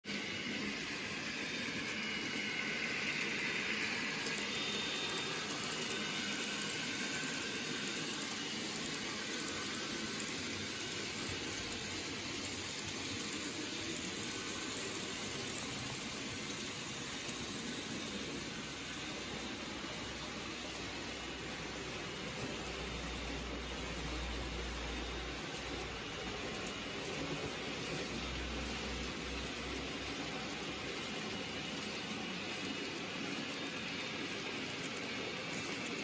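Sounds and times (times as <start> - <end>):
model train motor and wheels hiss: 0.1 - 36.0.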